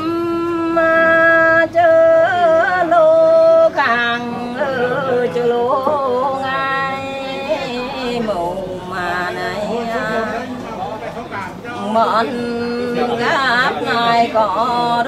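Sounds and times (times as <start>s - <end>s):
woman singing unaccompanied: 0.0s - 10.8s, 11.7s - 15.0s.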